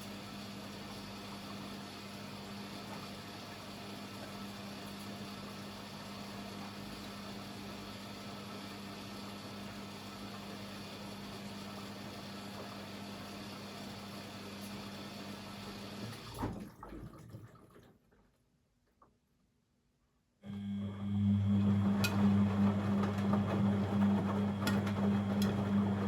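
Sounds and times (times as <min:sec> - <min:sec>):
washing machine humming: 0:00.0 - 0:17.8, 0:20.4 - 0:26.0.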